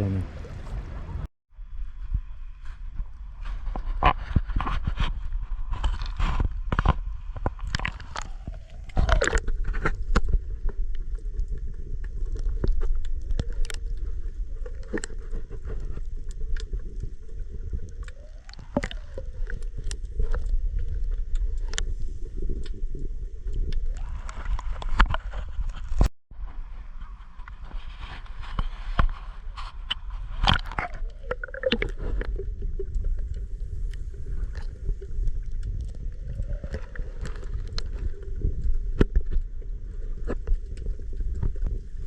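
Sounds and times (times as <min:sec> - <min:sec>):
muffled underwater rumble: 0:00.0 - 0:42.0.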